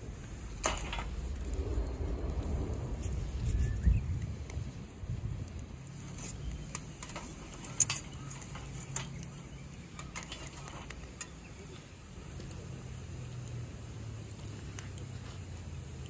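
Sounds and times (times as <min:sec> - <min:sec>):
fire popping: 0:00.0 - 0:16.0
low steady rumble: 0:00.0 - 0:16.0
wood fire crackling: 0:00.0 - 0:16.0.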